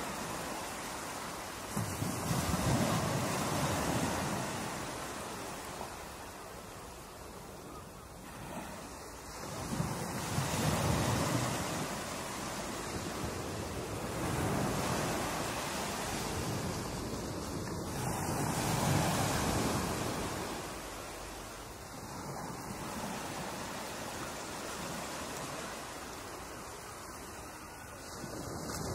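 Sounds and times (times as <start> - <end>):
ocean surf breaking: 0.0 - 6.3, 8.2 - 28.9.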